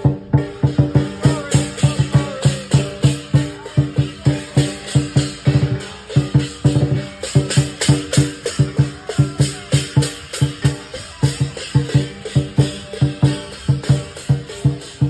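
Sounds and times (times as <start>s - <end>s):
hand cymbals crashing: 0.0s - 15.0s.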